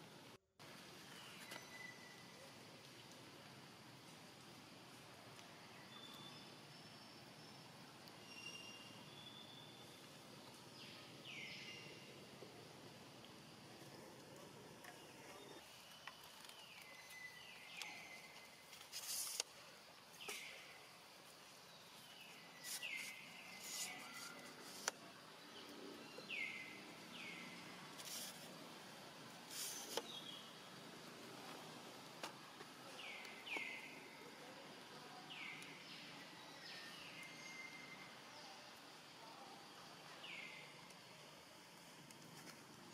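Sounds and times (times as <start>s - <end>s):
faint outdoor ambience: 0.0s - 42.9s.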